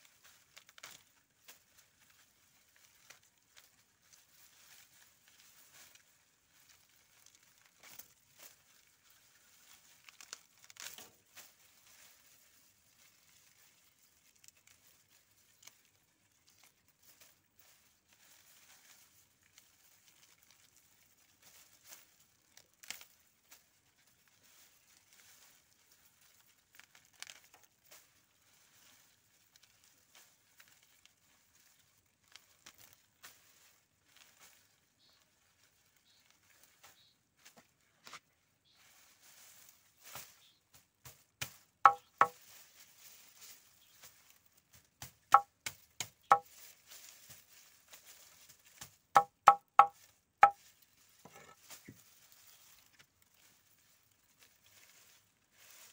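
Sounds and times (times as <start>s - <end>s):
dry stalks rustling and crackling: 0.0s - 55.9s.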